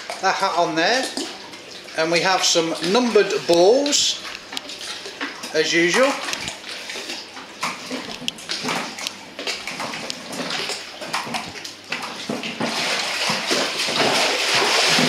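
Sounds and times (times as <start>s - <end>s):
pond water sloshing and splashing: 0.0s - 15.0s.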